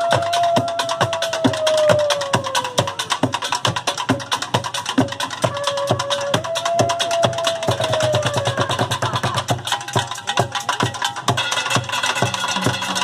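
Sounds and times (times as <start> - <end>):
fast sharp percussion strikes: 0.0 - 13.0
low drum beats: 0.0 - 13.0.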